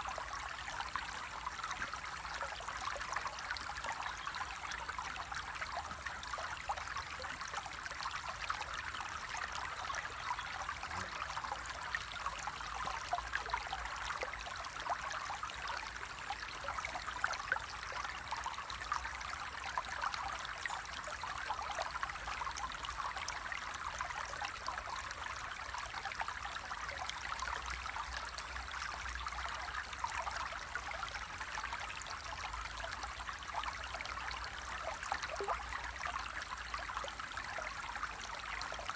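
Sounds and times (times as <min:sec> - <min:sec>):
water running and trickling: 0:00.0 - 0:38.9.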